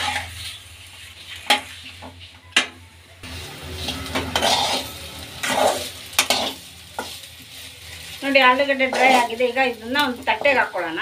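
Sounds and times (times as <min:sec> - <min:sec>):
potatoes sizzling in oil: 0:00.0 - 0:02.4, 0:03.2 - 0:11.0
spatula scraping pan: 0:00.0 - 0:02.4, 0:03.6 - 0:10.9.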